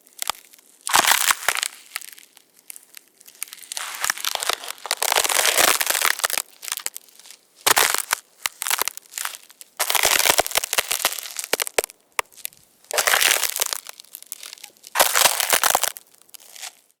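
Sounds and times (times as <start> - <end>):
footsteps crunching on ice: 0.2 - 17.0.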